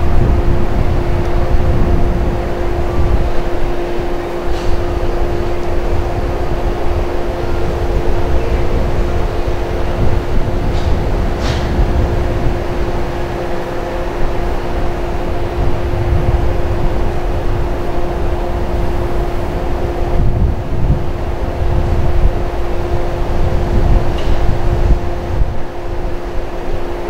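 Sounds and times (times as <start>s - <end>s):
electric train idling hum: 0.0s - 27.0s.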